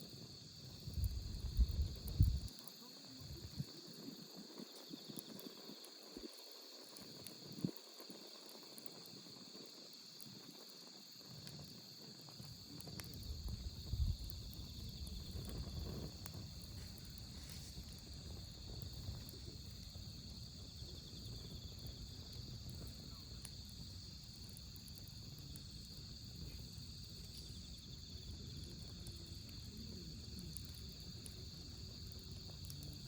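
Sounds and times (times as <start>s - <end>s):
campfire crackling: 0.0s - 33.0s
crickets chirring: 0.0s - 33.0s.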